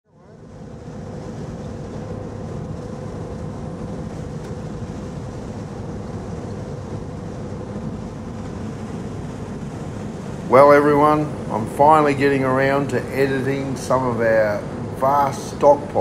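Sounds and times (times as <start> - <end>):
constant cabin hum: 0.0 - 16.0.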